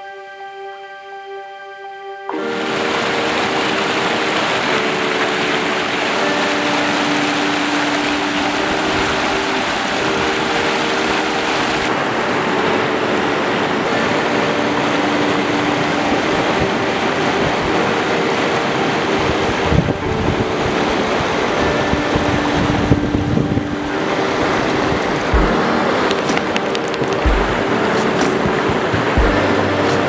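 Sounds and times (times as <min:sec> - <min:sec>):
river water rushing: 0:02.4 - 0:30.0.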